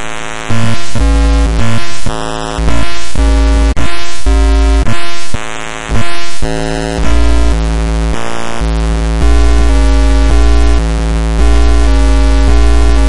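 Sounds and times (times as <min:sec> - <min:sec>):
buzzy synthesizer notes: 0:00.0 - 0:13.0
heavy bass: 0:00.5 - 0:05.1, 0:05.9 - 0:13.0.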